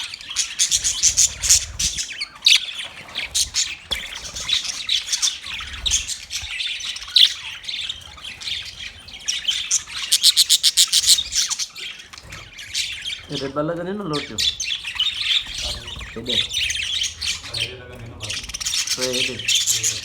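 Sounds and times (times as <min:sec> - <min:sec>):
budgerigars chirping and chattering: 0:00.0 - 0:20.0.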